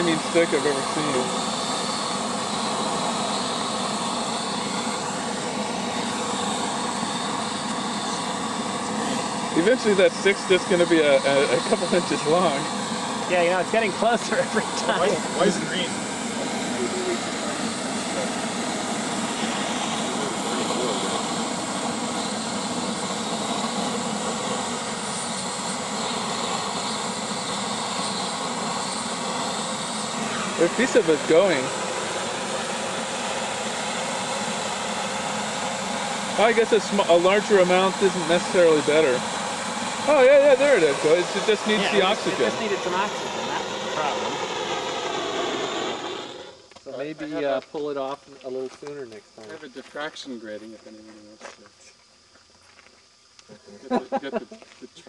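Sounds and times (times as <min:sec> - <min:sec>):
sodium hissing on water: 0:00.0 - 0:46.7.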